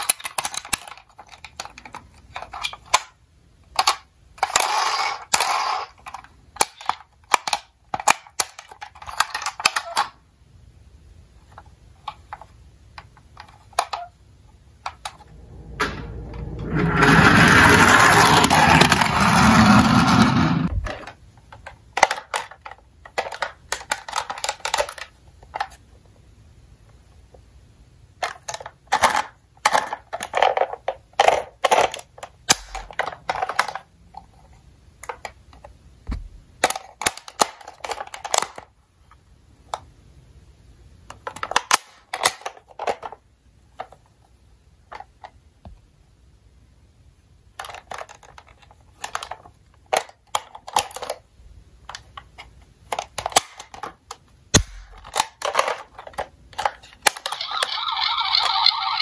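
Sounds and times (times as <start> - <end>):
toy being handled: 0.0 - 10.2, 11.4 - 14.2, 17.8 - 26.0, 28.2 - 35.8, 36.6 - 39.9, 41.1 - 45.4, 47.5 - 59.0.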